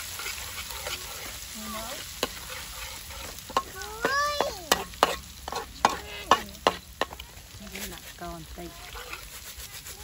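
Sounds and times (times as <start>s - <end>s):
clams sizzling in pan: 0.0s - 10.0s
knocks and scrapes of stirring: 0.0s - 10.0s.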